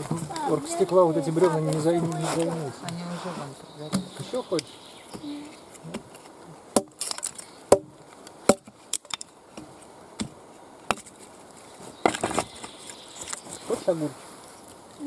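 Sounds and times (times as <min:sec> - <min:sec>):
campfire wood cracking: 0:00.0 - 0:03.0, 0:03.8 - 0:15.0.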